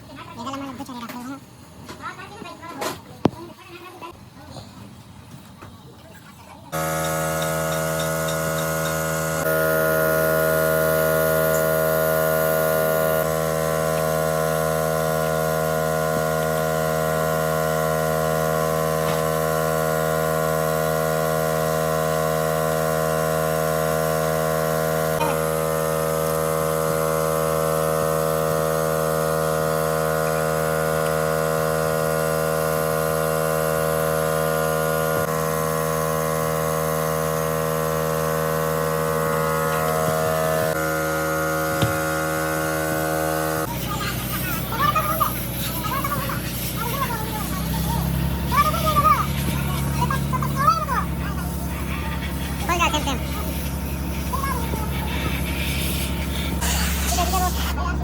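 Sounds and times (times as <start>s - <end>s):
machine hum: 6.7s - 58.0s.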